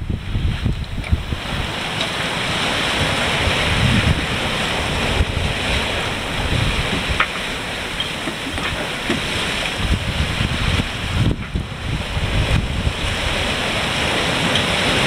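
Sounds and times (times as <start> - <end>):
waves breaking along a boat hull: 0.0 - 15.0
wind buffeting microphone: 0.0 - 15.0.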